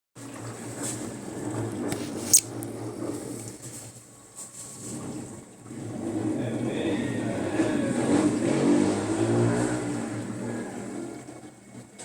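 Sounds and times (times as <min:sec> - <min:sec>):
washing machine humming: 0:00.2 - 0:12.0.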